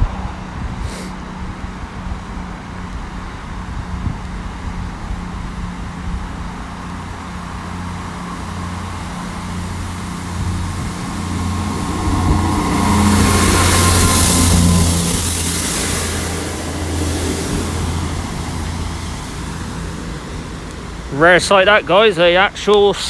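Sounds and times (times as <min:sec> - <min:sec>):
train low hum: 0:00.0 - 0:23.0.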